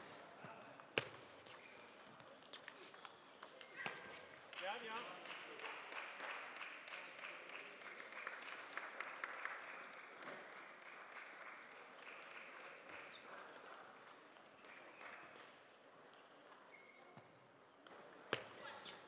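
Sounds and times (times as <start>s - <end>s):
sports hall ambience: 0.0s - 19.0s.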